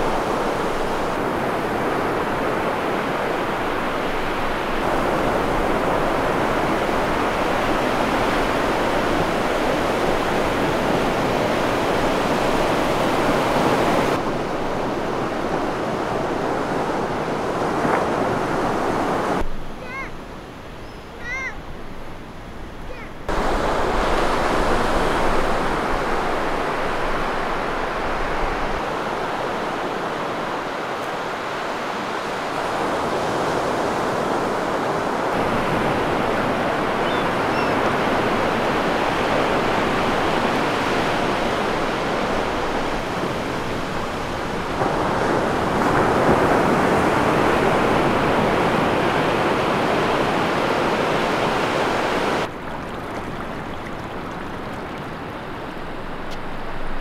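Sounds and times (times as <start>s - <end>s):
ocean surf breaking on beach: 0.0s - 20.6s, 21.2s - 57.0s.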